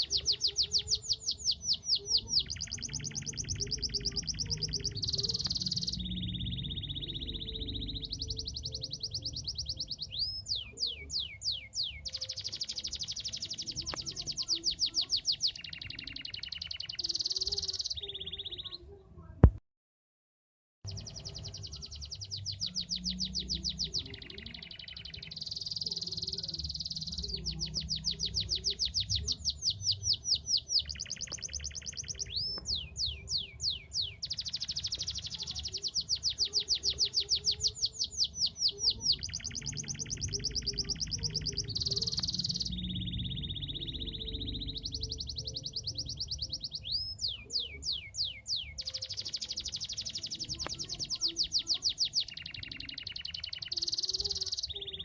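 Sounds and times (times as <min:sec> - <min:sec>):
canary singing trills: 0:00.0 - 0:19.0, 0:20.9 - 0:55.0.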